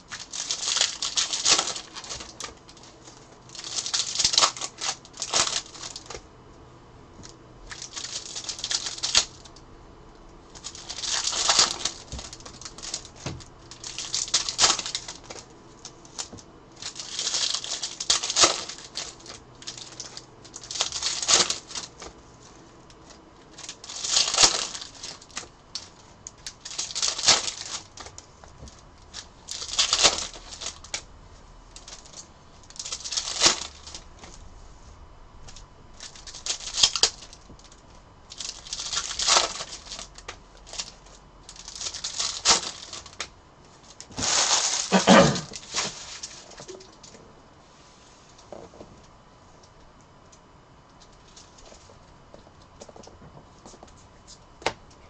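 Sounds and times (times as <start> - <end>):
wrappers ripping and crinkling: 0.0 - 6.2, 7.2 - 9.6, 10.5 - 34.5, 35.4 - 47.2.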